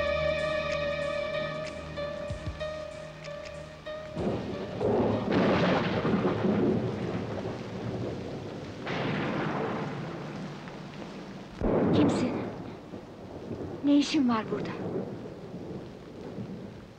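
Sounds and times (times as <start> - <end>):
rain: 0.0 - 16.9
thunder rumbling: 0.0 - 16.9.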